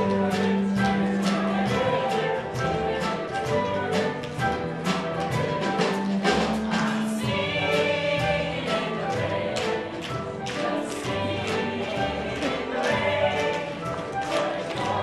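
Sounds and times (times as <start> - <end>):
chorus singing: 0.0 - 15.0
sharp percussive beats: 0.0 - 15.0.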